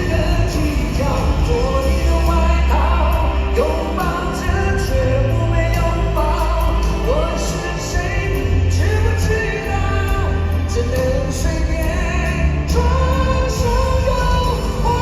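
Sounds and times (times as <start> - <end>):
live rock ballad: 0.0 - 15.0
person singing: 0.0 - 15.0.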